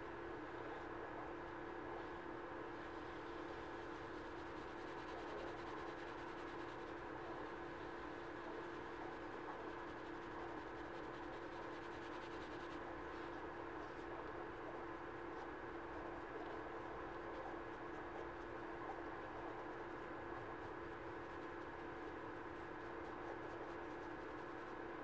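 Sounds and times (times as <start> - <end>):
steady room hum: 0.0 - 25.0.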